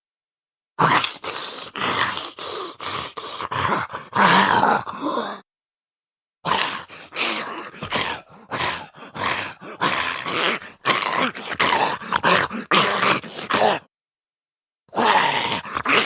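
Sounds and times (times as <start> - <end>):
zombie rasping growl and groan: 0.8 - 5.4, 6.5 - 13.9, 14.9 - 16.0.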